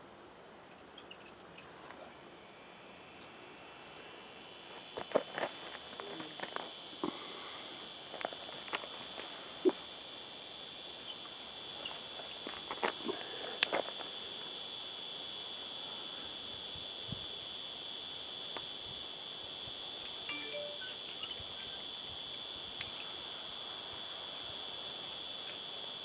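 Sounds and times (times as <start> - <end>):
insects chirring: 0.6 - 26.0.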